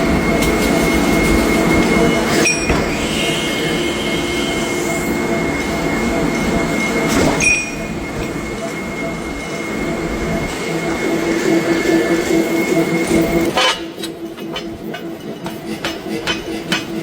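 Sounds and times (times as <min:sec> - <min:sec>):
mechanical rumble with whine: 0:00.0 - 0:17.0.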